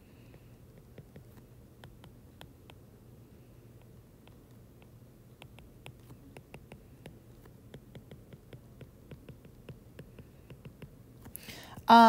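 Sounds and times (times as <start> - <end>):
low steady hum: 0.0 - 12.0
stylus tapping on glass screen: 0.2 - 2.8, 3.8 - 11.0.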